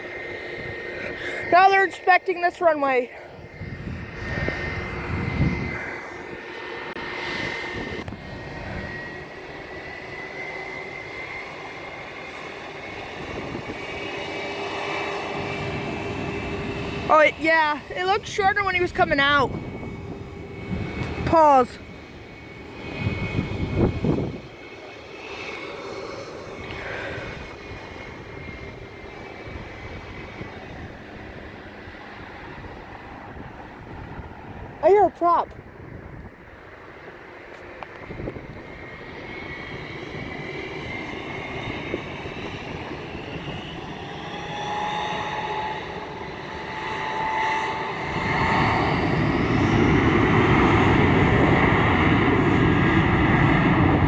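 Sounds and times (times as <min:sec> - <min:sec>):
jet engines whining while taxiing: 0:00.0 - 0:54.0.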